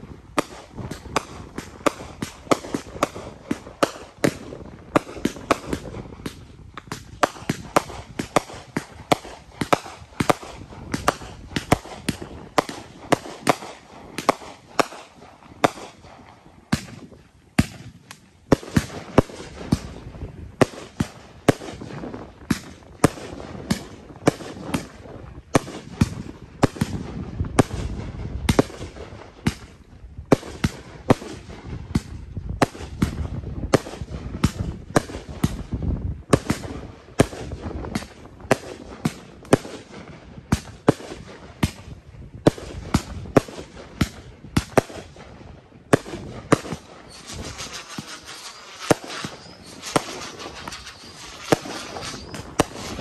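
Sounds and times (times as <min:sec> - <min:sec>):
fireworks sharp reports: 0:00.0 - 0:53.0.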